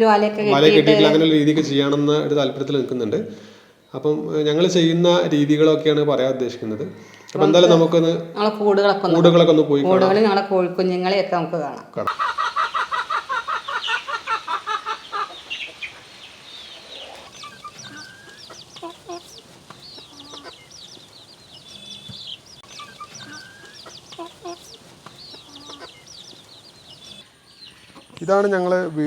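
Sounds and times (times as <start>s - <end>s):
chicks peeping: 0.0s - 2.8s, 3.4s - 11.2s, 12.1s - 29.0s
chickens clucking: 0.0s - 11.2s, 12.0s - 29.0s.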